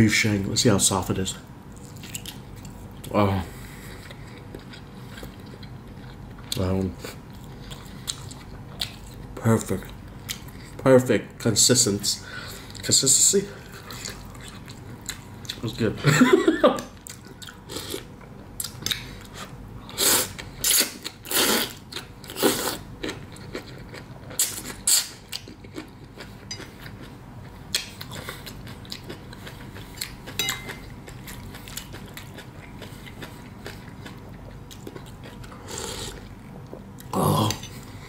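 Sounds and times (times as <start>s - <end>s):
person chewing: 1.8s - 9.2s, 13.6s - 15.6s, 17.0s - 38.0s.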